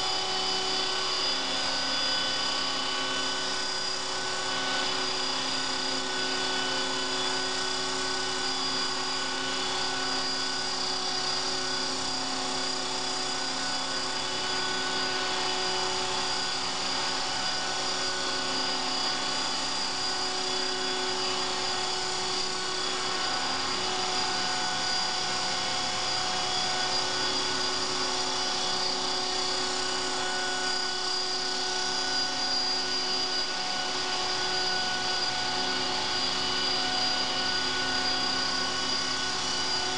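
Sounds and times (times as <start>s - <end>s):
model helicopter whine: 0.0s - 39.9s.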